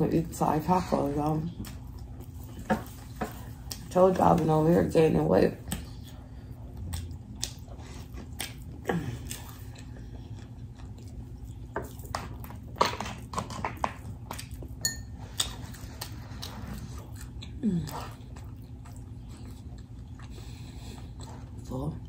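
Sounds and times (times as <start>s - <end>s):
steady low hum: 0.0s - 22.0s
close chewing: 0.1s - 4.8s, 5.4s - 22.0s.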